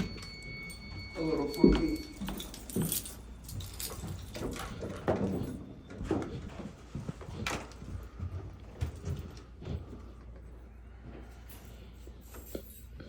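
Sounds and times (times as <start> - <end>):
footsteps: 0.0 - 12.8.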